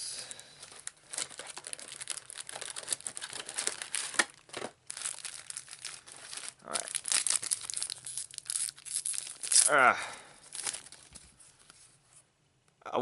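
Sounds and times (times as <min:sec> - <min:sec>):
card pack wrappers crinkling and tearing: 0:00.6 - 0:09.8, 0:10.4 - 0:11.8.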